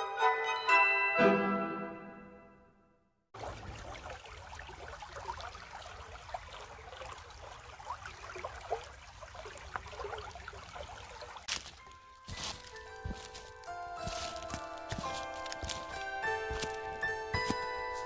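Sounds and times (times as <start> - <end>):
stream trickling and gurgling: 3.4 - 18.0.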